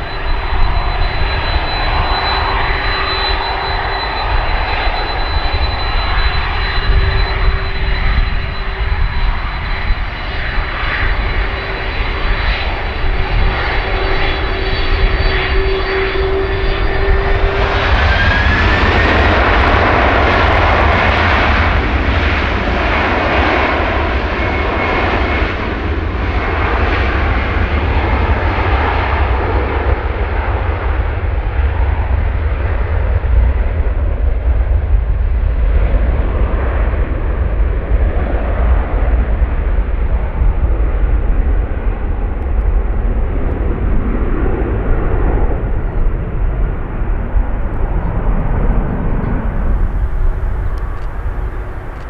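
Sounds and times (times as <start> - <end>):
jet engines running with whine: 0.0 - 52.0.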